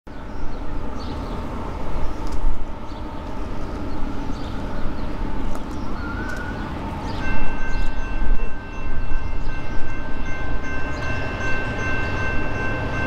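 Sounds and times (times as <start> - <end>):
distant freight train rumble: 0.1 - 13.0.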